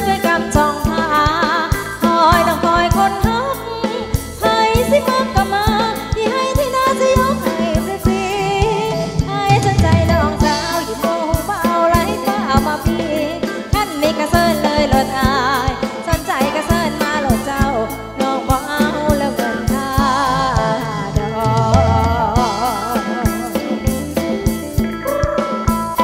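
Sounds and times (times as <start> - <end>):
dance band instruments: 0.0 - 26.0
steady drum beat: 0.0 - 26.0.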